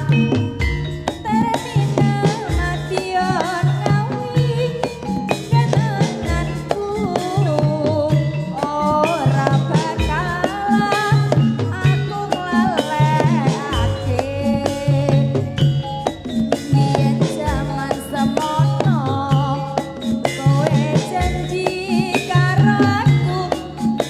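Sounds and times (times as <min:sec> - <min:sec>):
sliding high melody: 0:00.0 - 0:24.0.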